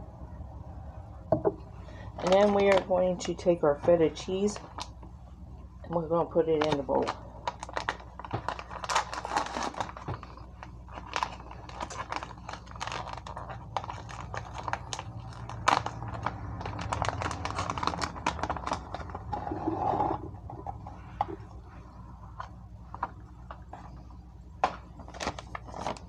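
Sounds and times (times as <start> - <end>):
plastic packaging crinkling: 1.9 - 3.5, 4.2 - 5.1, 6.5 - 20.3, 21.3 - 26.0.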